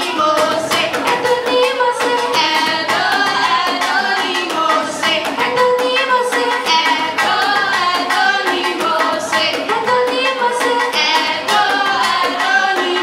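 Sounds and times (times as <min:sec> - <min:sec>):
girl singing: 0:00.0 - 0:13.0
steady percussion beat: 0:00.0 - 0:13.0.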